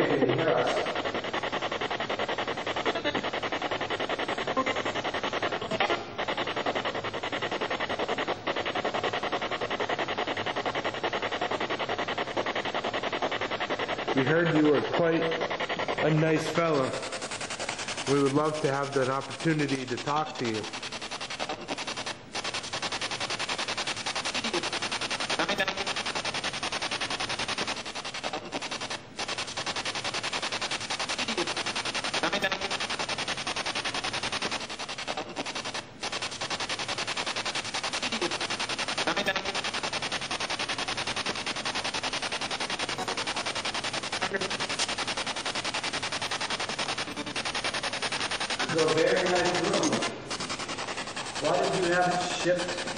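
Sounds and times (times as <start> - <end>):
chopping radio static: 0.0 - 52.9
scraps of radio voices: 0.0 - 52.9.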